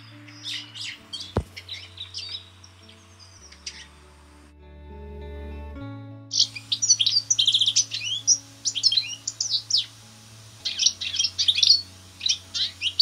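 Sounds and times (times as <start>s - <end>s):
goldfinch twittering: 0.0s - 4.0s, 6.3s - 13.0s.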